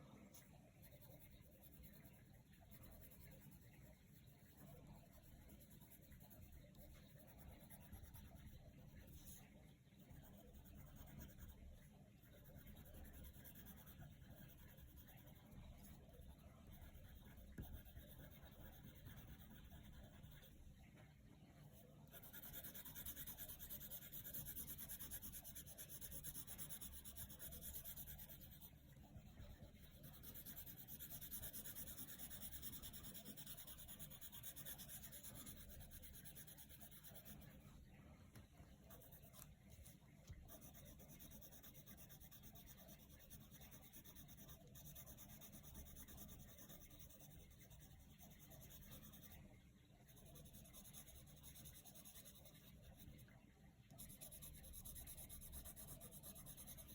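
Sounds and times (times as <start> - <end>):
pencil scratching on paper: 0.3 - 20.6, 21.7 - 37.8, 38.8 - 49.4, 50.0 - 56.9.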